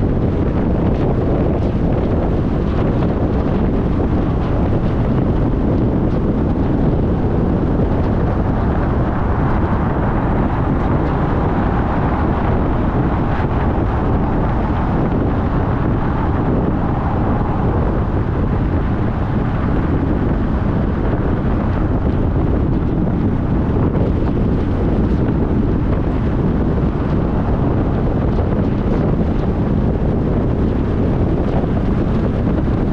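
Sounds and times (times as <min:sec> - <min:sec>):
car driving: 0:00.0 - 0:32.9.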